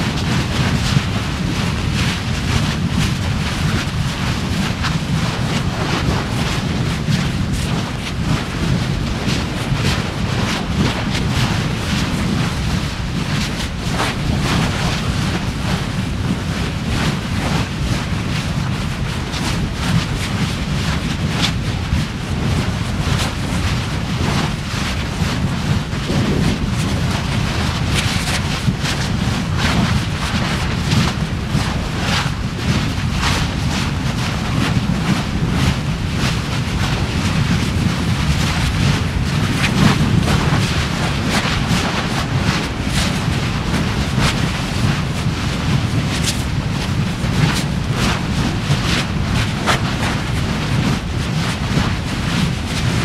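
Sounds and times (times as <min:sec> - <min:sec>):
low volcanic rumble: 0:00.0 - 0:53.0
wind buffeting microphone: 0:00.0 - 0:53.0.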